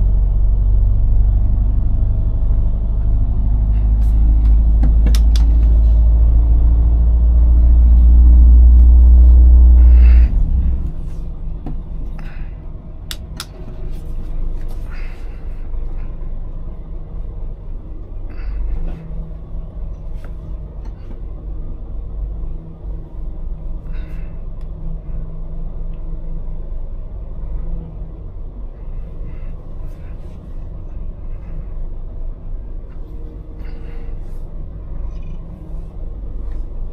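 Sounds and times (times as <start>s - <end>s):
diesel lorry engine: 0.0s - 36.9s
road noise: 0.0s - 36.9s.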